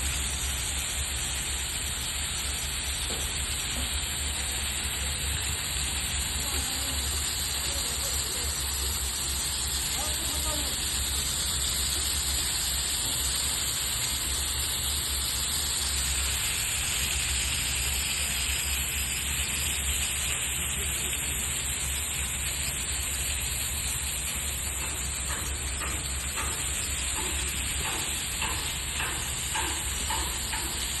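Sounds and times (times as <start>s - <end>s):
water falling and splashing: 0.0s - 31.0s.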